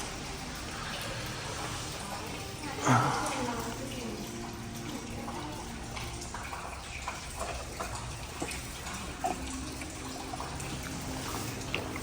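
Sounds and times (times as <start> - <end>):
trickle of running water: 0.0 - 12.0.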